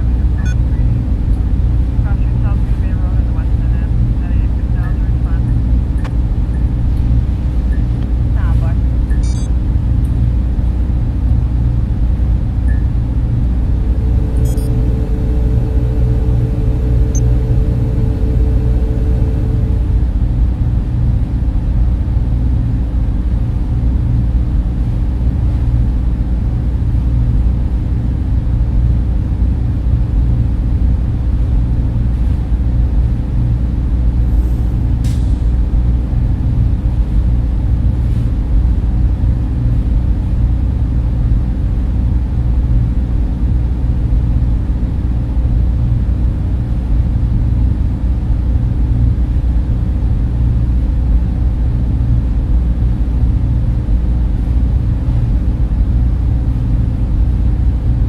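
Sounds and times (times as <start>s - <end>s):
server and cooling fans humming: 0.0s - 58.0s.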